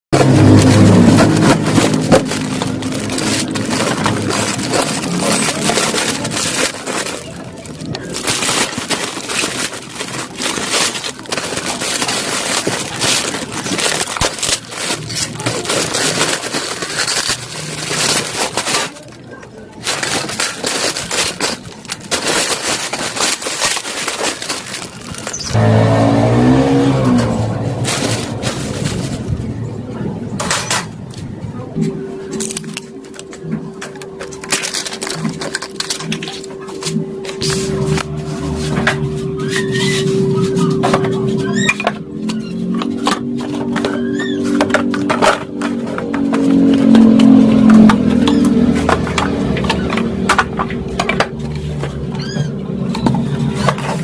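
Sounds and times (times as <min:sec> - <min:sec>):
packaging crinkling and ripping: 0:00.2 - 0:29.6, 0:32.3 - 0:54.0.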